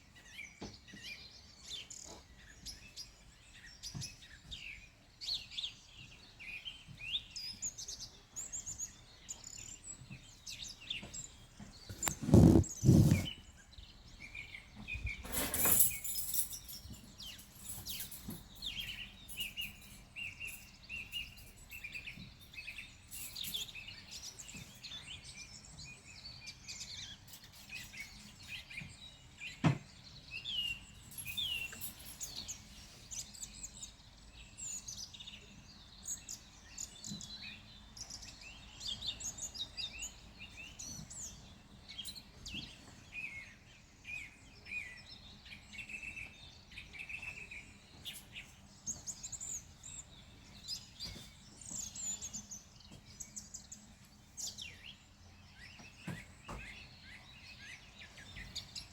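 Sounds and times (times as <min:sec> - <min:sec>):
songbirds chirping and singing: 0:00.0 - 0:58.9.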